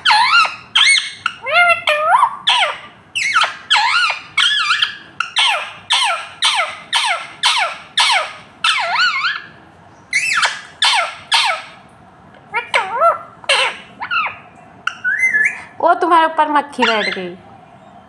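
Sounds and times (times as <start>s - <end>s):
parakeet squawking: 0.0s - 11.9s, 12.5s - 15.8s, 16.6s - 17.4s.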